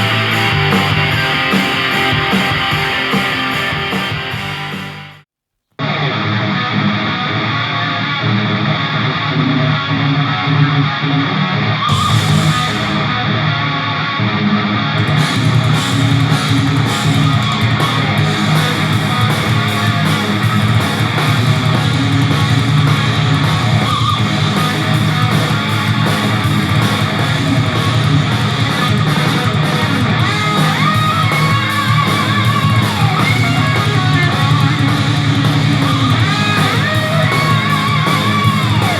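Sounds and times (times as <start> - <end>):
rock music over speakers: 0.0 - 5.2, 5.8 - 38.9.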